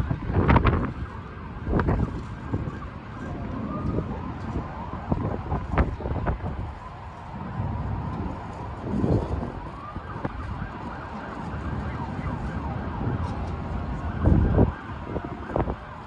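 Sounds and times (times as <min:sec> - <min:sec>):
city noise hum: 0:00.0 - 0:16.0
distant siren wailing: 0:00.0 - 0:16.0
wind buffeting microphone: 0:00.0 - 0:16.0.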